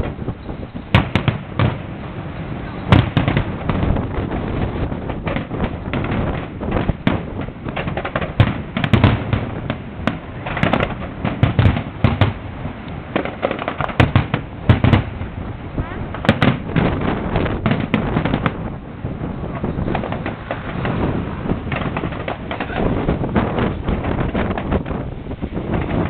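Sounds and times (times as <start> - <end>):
fireworks banging: 0.0 - 26.0.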